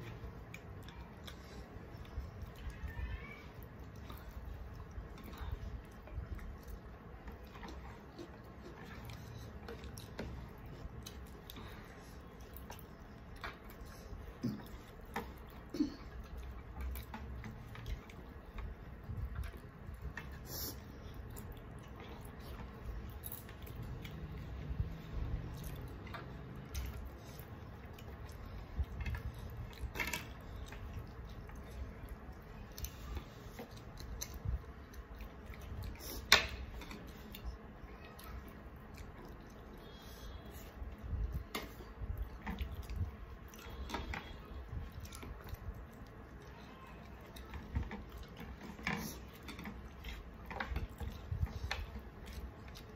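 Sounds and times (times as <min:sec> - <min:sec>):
chewing: 0:00.0 - 0:52.9
fingers squishing food on plates: 0:00.0 - 0:52.9.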